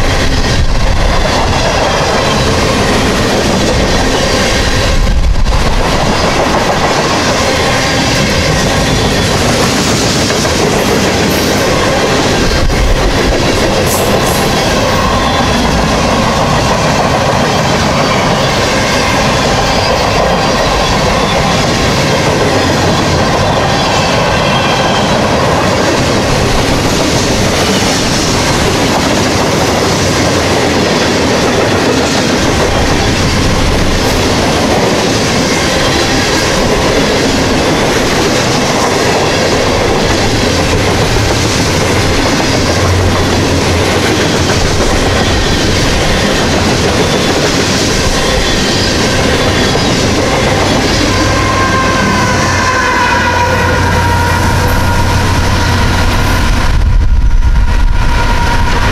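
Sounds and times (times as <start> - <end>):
steel wheels clattering on rails: 0.0 - 56.8.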